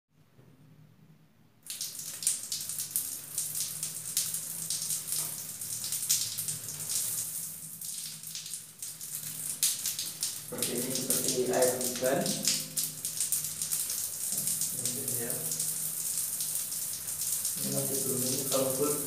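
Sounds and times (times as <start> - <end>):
shower water spraying on tiles: 1.6 - 19.0.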